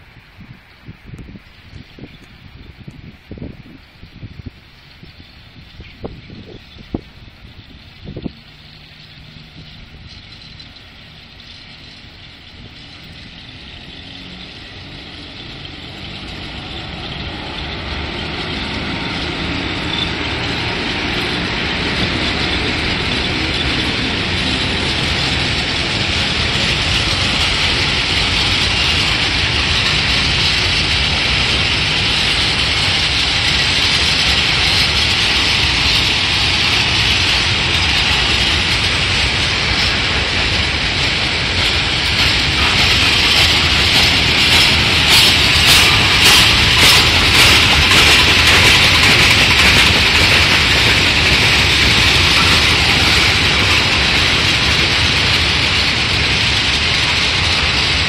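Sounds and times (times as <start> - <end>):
electric locomotive passing: 0.0 - 58.0
freight wagons rolling on rails: 1.4 - 58.0.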